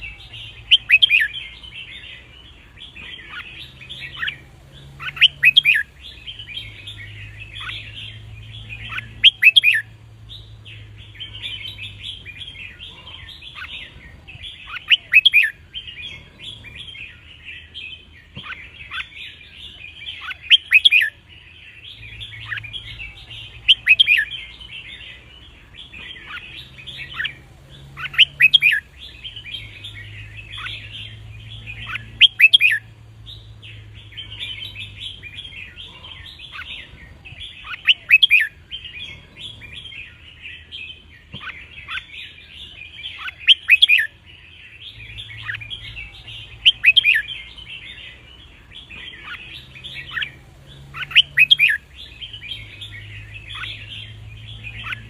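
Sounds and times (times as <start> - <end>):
bulbuls chattering calls: 0.0 - 55.0.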